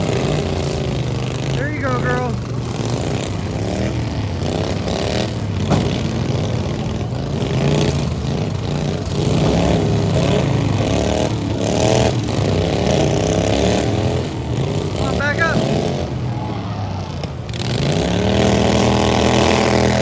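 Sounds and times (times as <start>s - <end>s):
lawn mower engines revving: 0.0s - 20.0s
mowers clattering and scraping: 0.0s - 20.0s.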